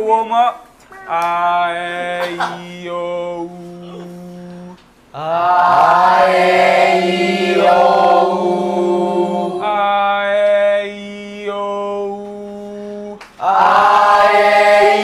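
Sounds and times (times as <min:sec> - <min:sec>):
group singing held notes: 0:01.9 - 0:15.0.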